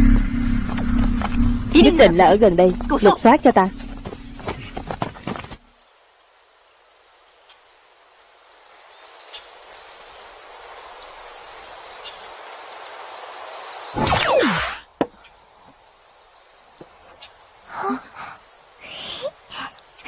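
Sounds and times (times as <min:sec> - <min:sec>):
cricket-like chirps: 0:00.4 - 0:20.0
insects hissing: 0:00.4 - 0:20.0.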